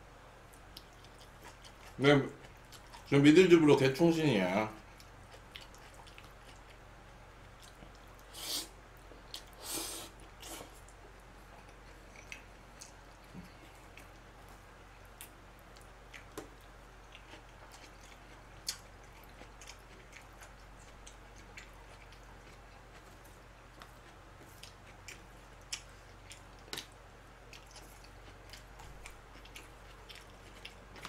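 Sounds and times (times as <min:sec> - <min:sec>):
low steady hum: 0:00.0 - 0:31.0
man chewing food: 0:00.4 - 0:03.2, 0:04.7 - 0:31.0.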